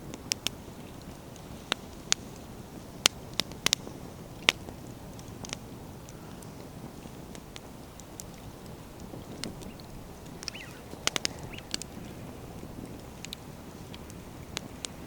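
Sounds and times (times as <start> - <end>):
fire pops and snaps: 0.0 - 15.0
low rush of flame: 0.0 - 15.0
logs crackling: 0.1 - 15.0.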